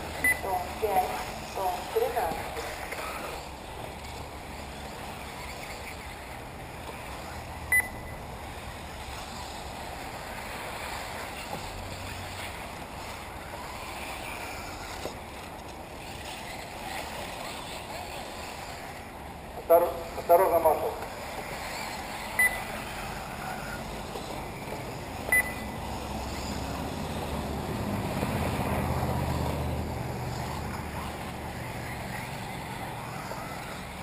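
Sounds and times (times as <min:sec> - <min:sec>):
electric rc cars whining: 0:00.0 - 0:34.0
outdoor background noise: 0:00.0 - 0:34.0.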